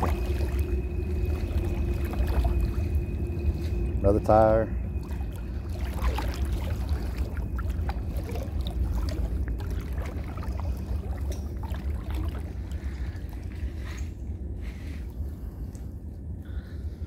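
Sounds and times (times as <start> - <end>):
water splashing around wading legs: 0.0 - 14.1
low microphone rumble: 0.0 - 17.0.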